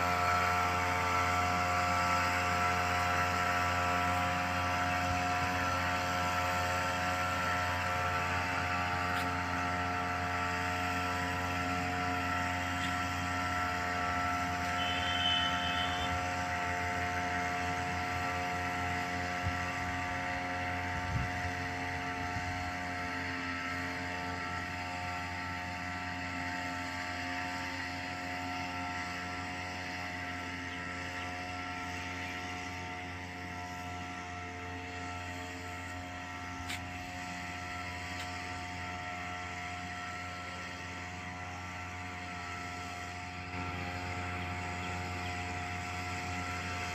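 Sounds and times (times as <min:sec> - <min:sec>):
small sprayer engine running: 0:00.0 - 0:46.9.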